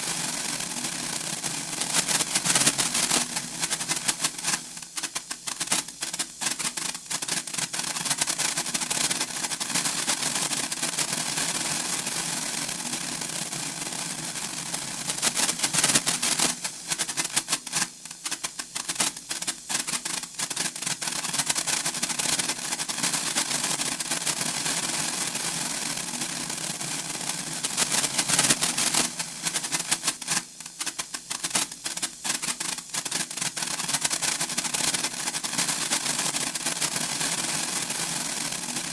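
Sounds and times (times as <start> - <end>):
sparklers crackling and popping: 0.0 - 38.9.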